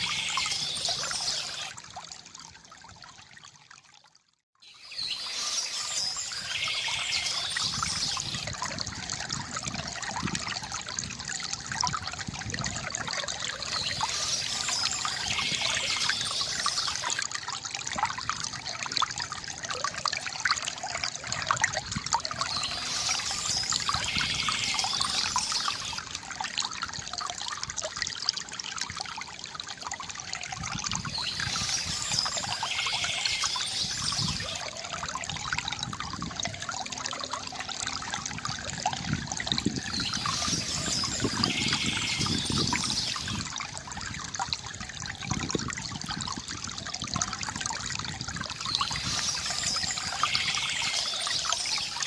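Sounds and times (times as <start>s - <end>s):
fountain water trickling and splashing: 0.0s - 52.0s.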